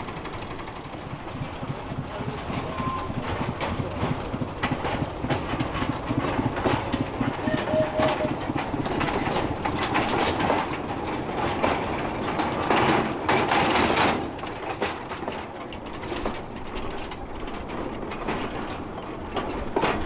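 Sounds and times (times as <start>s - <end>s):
train rattling and clanking: 0.0s - 20.0s.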